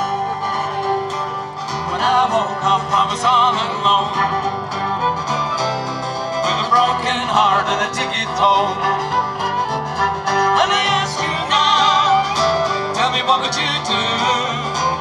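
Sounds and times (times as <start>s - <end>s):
fiddle playing bluegrass tune: 0.0s - 15.0s
guitar accompaniment: 0.0s - 15.0s.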